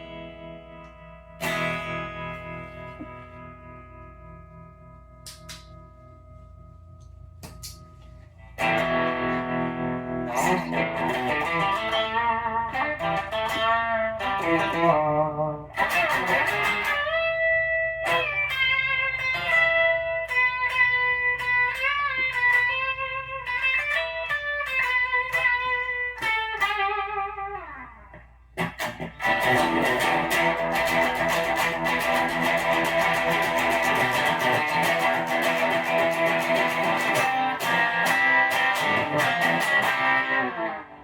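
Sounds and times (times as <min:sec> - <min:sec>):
electric guitar lead lines: 0:00.0 - 0:41.0
electric guitar strummed chords: 0:00.0 - 0:41.0.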